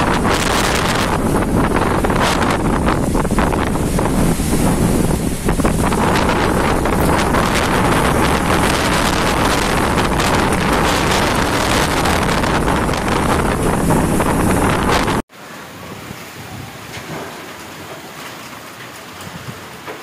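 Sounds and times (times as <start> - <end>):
wind buffeting microphone: 0.0 - 17.8.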